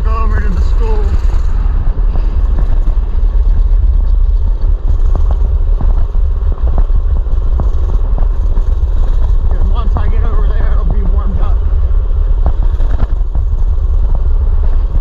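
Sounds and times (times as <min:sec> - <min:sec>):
small engine running: 0:00.0 - 0:15.0
wind rumble on microphone: 0:00.0 - 0:15.0.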